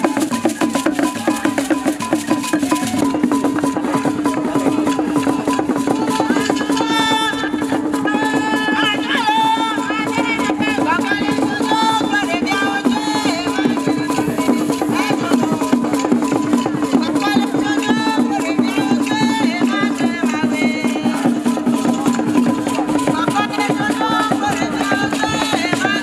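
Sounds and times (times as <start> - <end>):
drum ensemble playing: 0.0 - 26.0
people singing: 0.0 - 26.0.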